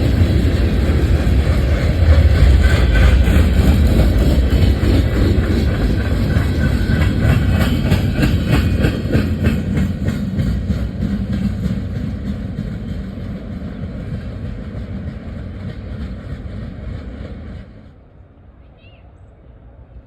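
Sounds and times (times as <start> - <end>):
wheels clacking over rail joints: 0.0 - 17.4
train rumbling past: 0.0 - 20.0.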